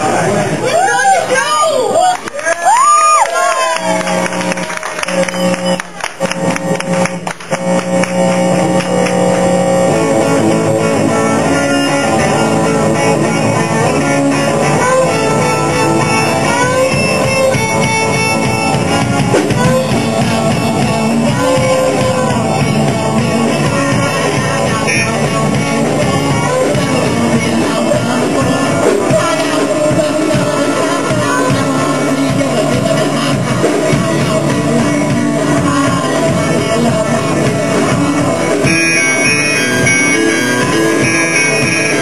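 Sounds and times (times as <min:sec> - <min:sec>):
rock music with guitar and drums: 0:03.9 - 0:42.0.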